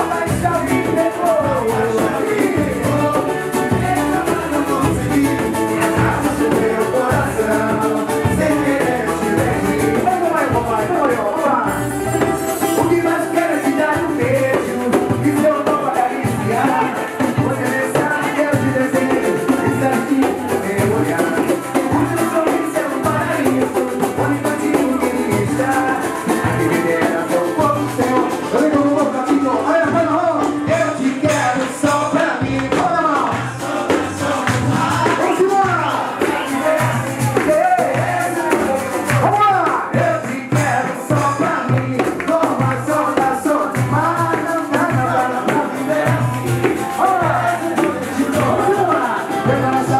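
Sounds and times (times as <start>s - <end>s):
hand drum beat: 0.0s - 49.9s
person singing: 0.0s - 49.9s
strummed small guitar: 0.0s - 49.9s.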